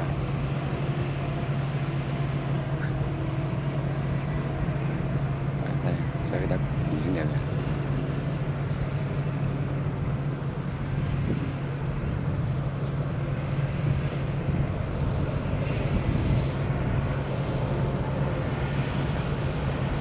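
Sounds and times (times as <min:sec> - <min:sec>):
diesel engine hum: 0:00.0 - 0:20.0.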